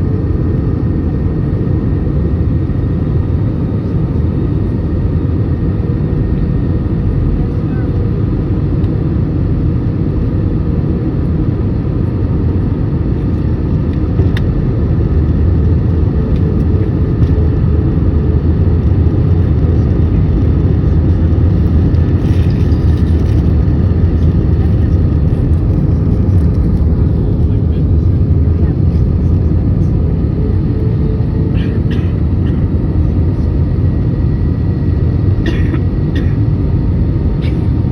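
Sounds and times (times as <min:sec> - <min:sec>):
airliner cabin rumble: 0:00.0 - 0:37.9.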